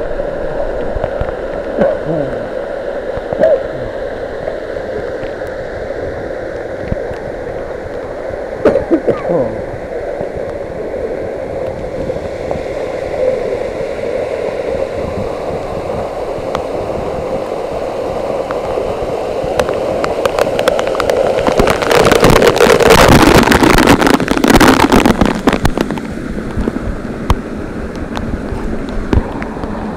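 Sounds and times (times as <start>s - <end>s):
water splashing on camera: 0.0s - 13.8s, 14.4s - 29.9s
waterfall rushing: 0.0s - 29.9s.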